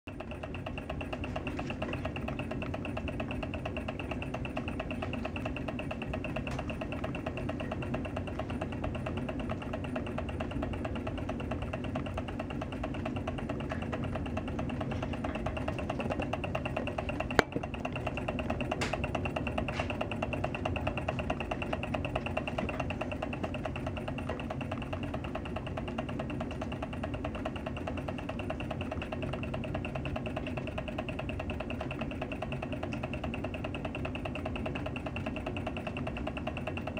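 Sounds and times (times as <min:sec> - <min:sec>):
small engine ticking whirr: 0:00.1 - 0:36.9.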